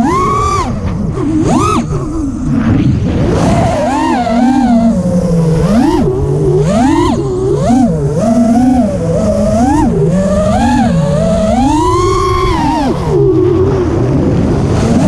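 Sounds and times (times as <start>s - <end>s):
quadcopter motors buzzing whine: 0.0s - 15.0s.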